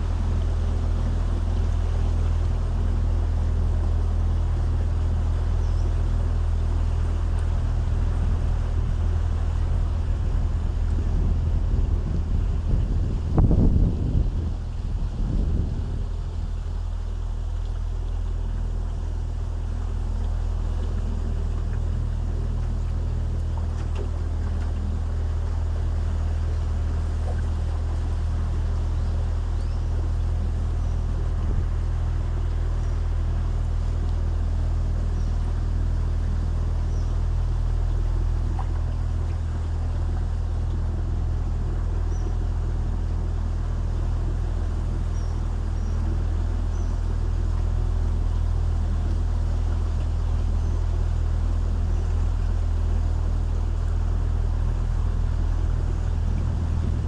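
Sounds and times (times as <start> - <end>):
boat motor humming: 0.0 - 57.0.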